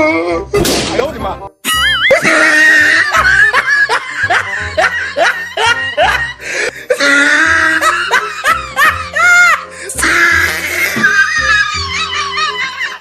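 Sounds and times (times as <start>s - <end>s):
person laughing loudly: 1.6s - 13.0s.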